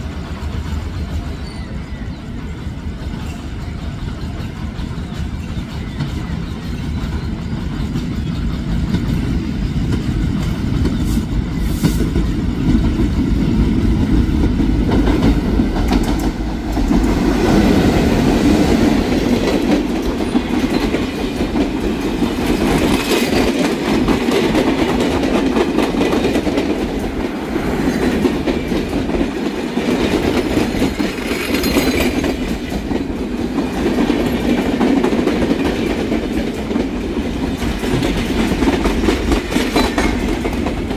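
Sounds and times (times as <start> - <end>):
train cars rumbling: 0.0 - 40.9
wheels clacking over rail joints: 0.0 - 40.9.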